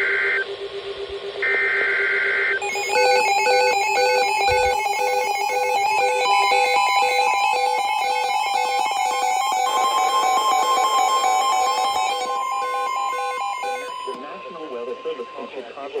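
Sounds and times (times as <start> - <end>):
electronic alarm with pulsing beeps: 0.0 - 15.6
digital header tones: 2.5 - 15.6.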